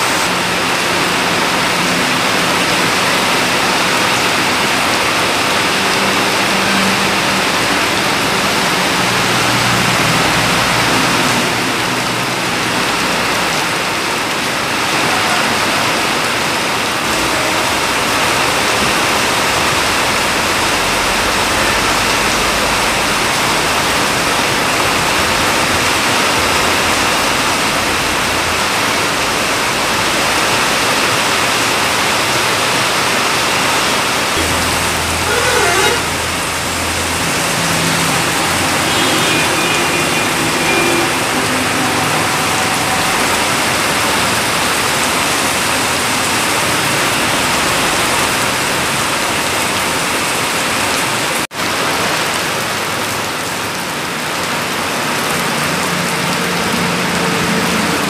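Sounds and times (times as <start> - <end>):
heavy rain on a road: 0.0 - 58.0
lorry passing on wet road: 0.0 - 58.0.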